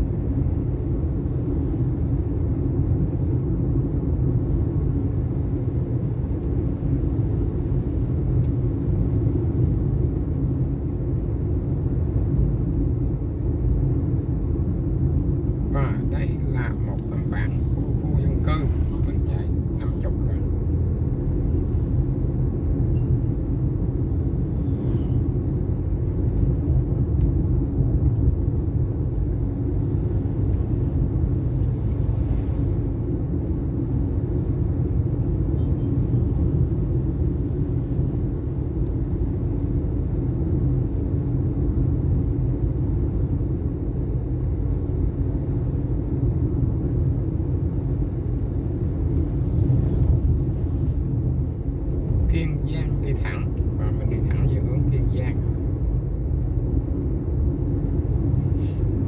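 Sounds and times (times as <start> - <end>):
vehicle road noise rumble: 0.0 - 59.0.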